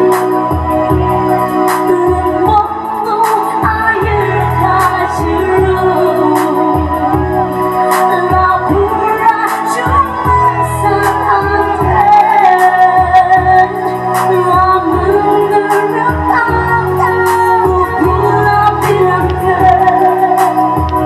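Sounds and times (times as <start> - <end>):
music with drum beat and bass: 0.0 - 21.0
woman singing into a microphone: 0.0 - 21.0.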